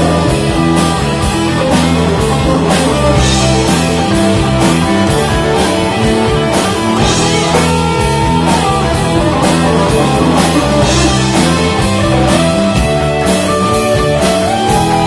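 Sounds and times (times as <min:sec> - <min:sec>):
bass guitar: 0:00.0 - 0:15.0
drum kit beating: 0:00.0 - 0:15.0
electric guitars: 0:00.0 - 0:15.0.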